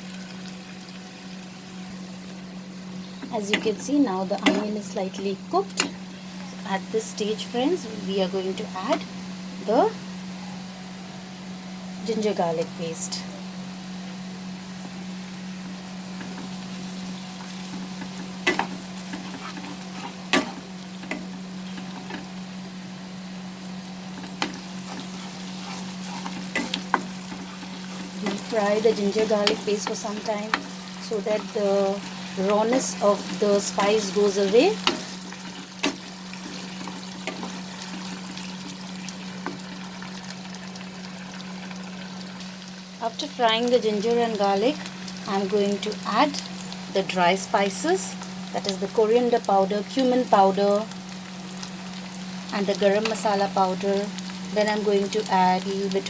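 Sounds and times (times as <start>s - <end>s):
onions sizzling in hot oil: 0.0s - 56.0s
steady low hum: 0.0s - 56.0s.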